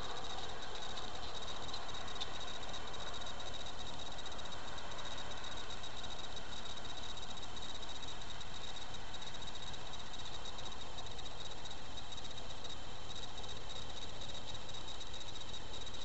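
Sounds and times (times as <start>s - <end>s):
constant hiss: 0.0s - 16.0s
insects trilling: 0.0s - 16.0s.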